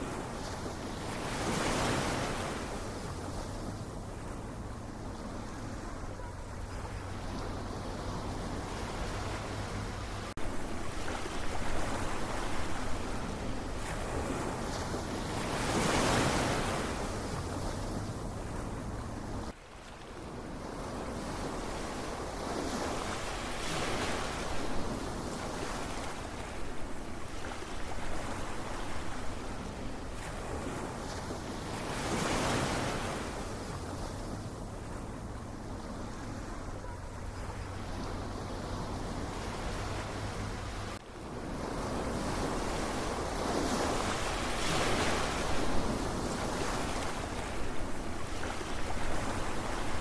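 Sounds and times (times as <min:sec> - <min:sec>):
large waves breaking: 0:00.0 - 0:50.0
ocean waves washing ashore: 0:00.0 - 0:50.0.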